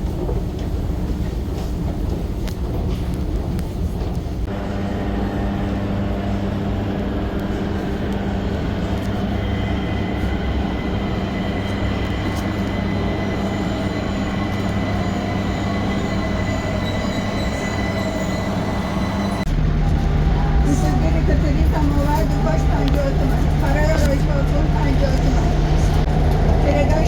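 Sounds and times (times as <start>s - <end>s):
high train whine: 0.0s - 27.0s
train rumble of wheels and motors: 0.0s - 27.0s.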